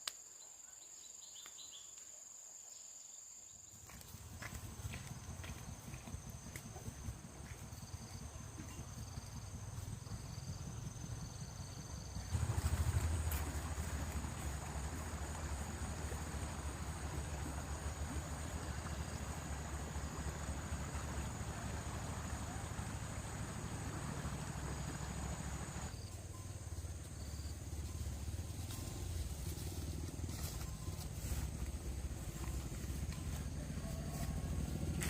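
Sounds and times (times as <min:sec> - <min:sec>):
insects chirring: 0:00.0 - 0:35.0
constant low rumble: 0:03.9 - 0:35.0.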